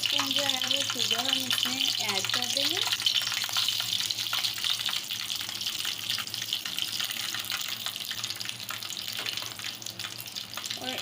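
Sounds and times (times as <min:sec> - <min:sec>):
ghee sizzling in a frying pan: 0:00.0 - 0:11.0.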